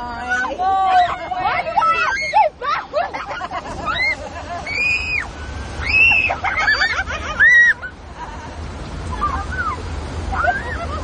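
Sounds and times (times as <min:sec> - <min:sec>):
rushing water rumble: 0:00.0 - 0:11.0
people shrieking: 0:00.1 - 0:08.0, 0:09.2 - 0:11.0.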